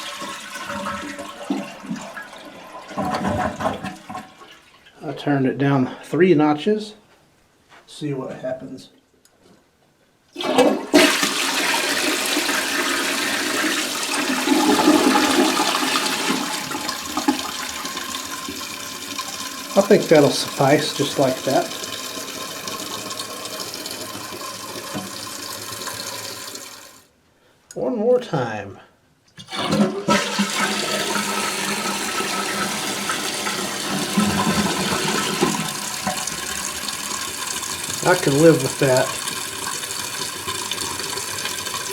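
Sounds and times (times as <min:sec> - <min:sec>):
toilet flushing: 0:00.0 - 0:05.0, 0:10.4 - 0:27.1, 0:29.4 - 0:41.9.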